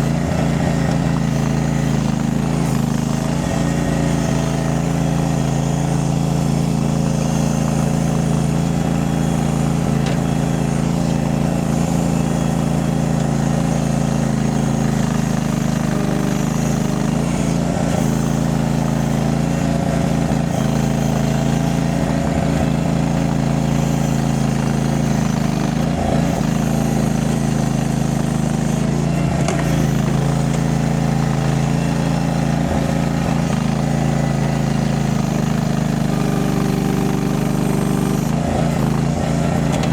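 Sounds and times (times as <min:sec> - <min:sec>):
skid steer engine droning: 0:00.0 - 0:39.9.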